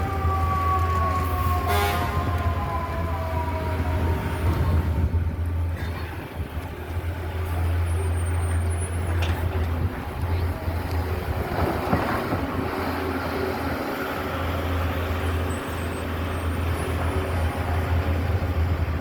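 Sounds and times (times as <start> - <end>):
diesel truck engine rumbling: 0.0 - 19.0
street traffic: 0.0 - 19.0.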